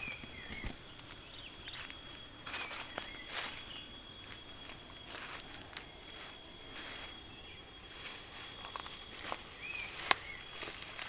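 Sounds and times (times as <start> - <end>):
bird chirps: 0.0 - 11.0
faint insect whine: 0.0 - 11.0
footsteps in grass and leaves: 0.0 - 11.0.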